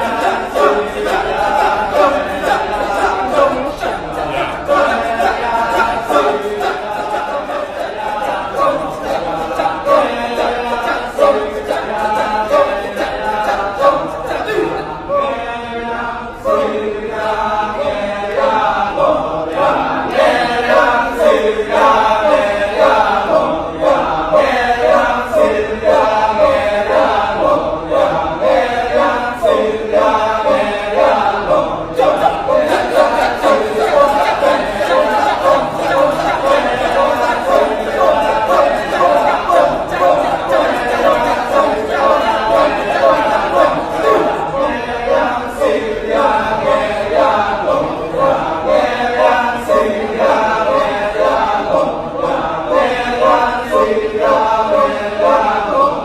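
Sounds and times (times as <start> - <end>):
many voices chanting rhythmically: 0.0 - 56.0.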